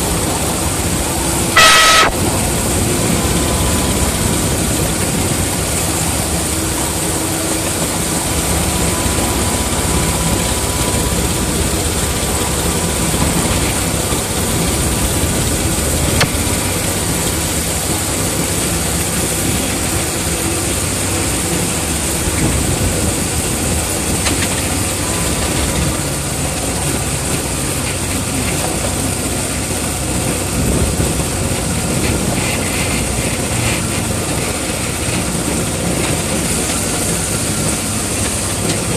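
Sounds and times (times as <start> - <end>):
locomotive engine running: 0.0 - 38.9.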